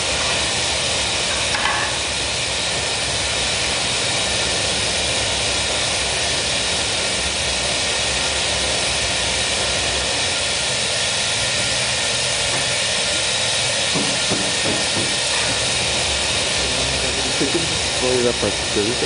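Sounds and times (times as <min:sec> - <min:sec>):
furnace burners and blowers rushing: 0:00.0 - 0:19.0.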